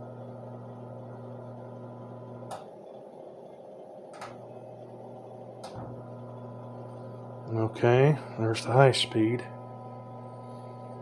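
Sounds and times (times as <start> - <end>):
electric fan motor humming: 0.0 - 11.0.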